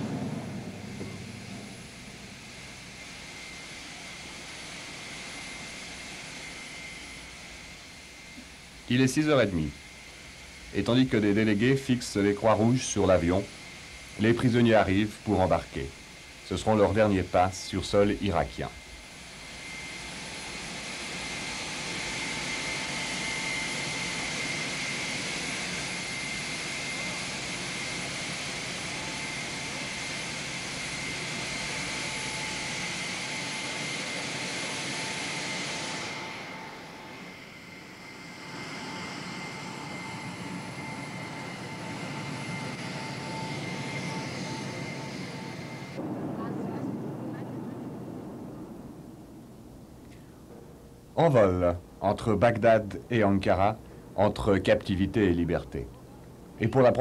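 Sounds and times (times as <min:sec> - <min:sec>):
jet engines rushing and whining: 0:00.0 - 0:57.0.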